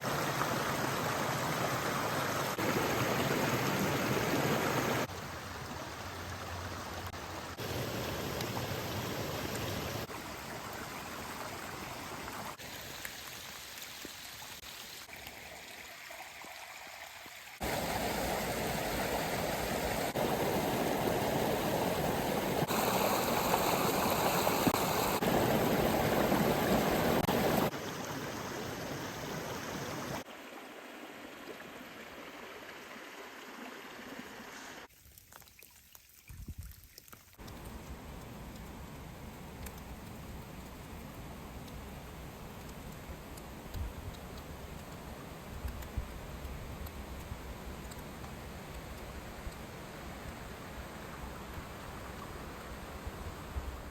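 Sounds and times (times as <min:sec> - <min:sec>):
stream and small waterfalls: 0:00.0 - 0:53.9.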